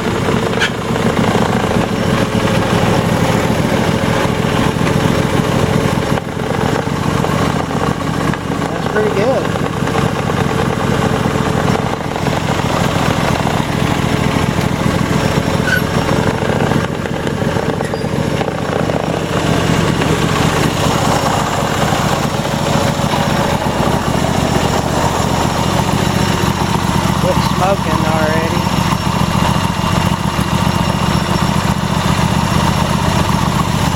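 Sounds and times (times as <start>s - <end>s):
riding mower engine running: 0.0s - 33.9s.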